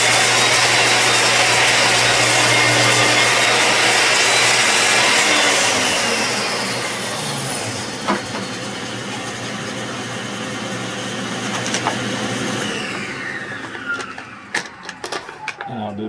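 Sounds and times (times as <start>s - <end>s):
table saw winding down: 0.0s - 15.7s.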